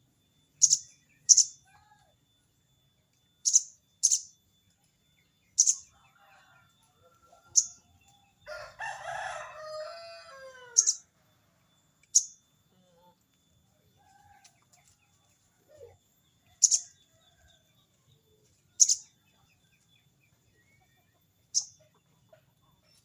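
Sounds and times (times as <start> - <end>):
faint bird chirps: 0.0 - 8.6, 9.8 - 23.0.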